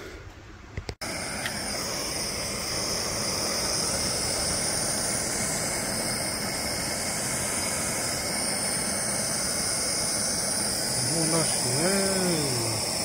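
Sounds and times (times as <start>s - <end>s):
propane torch hissing: 1.0s - 13.0s.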